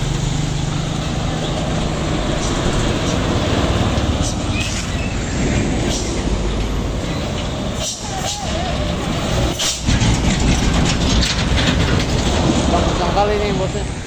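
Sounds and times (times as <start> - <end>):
heavy trucks driving past: 0.0 - 14.0.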